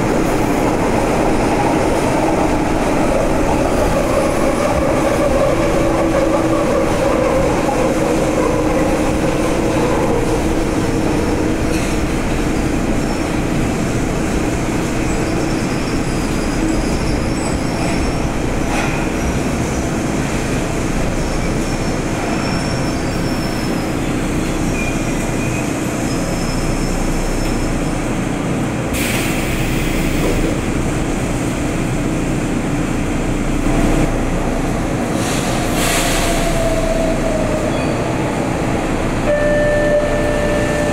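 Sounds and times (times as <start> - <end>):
wheels rumbling on rail: 0.0 - 40.9.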